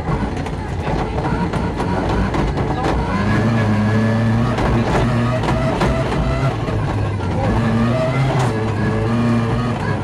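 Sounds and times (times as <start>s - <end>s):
car engine under load: 0.0s - 10.0s
sharp clicks and knocks: 0.0s - 10.0s.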